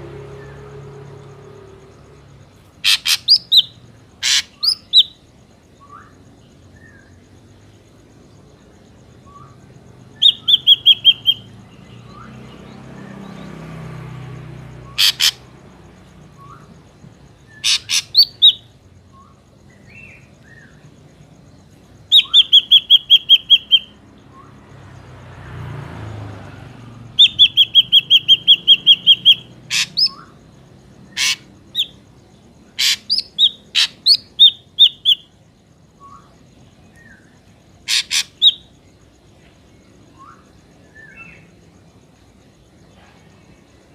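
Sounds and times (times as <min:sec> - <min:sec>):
drongo calling: 0:00.0 - 0:24.8, 0:26.8 - 0:43.9.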